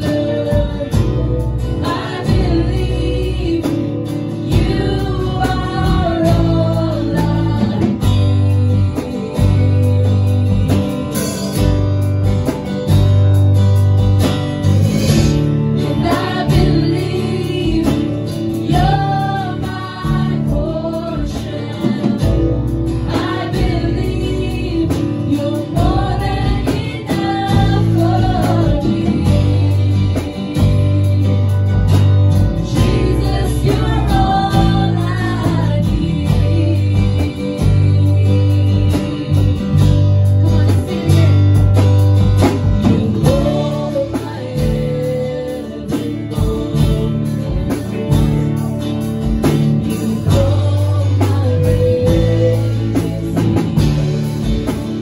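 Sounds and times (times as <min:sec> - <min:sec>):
women singing: 0:00.0 - 0:11.7, 0:14.8 - 0:55.0
acoustic guitar: 0:00.0 - 0:55.0
bass guitar: 0:00.0 - 0:55.0
drum kit: 0:00.0 - 0:55.0.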